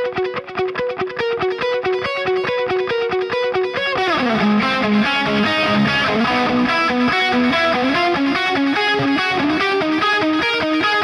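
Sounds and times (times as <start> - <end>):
overdriven electric guitar riff: 0.0 - 11.0.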